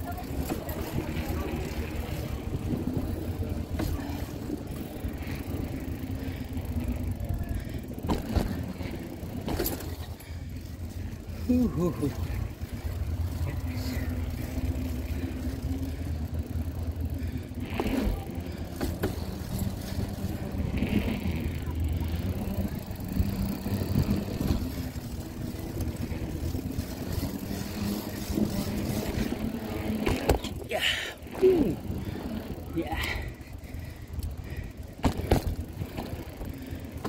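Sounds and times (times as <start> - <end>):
wheels rumbling over concrete: 0.0 - 37.0.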